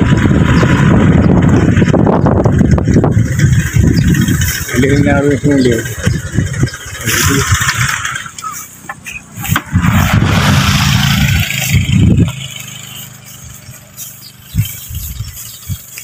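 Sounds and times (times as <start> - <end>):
scooter engine rumbling: 0.0 - 16.0.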